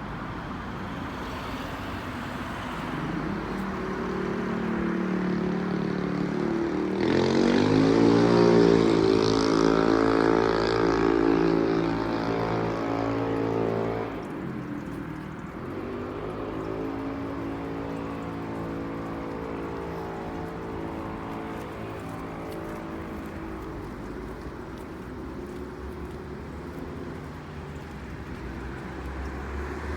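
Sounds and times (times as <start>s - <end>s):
vehicle engine accelerating: 2.3s - 29.9s.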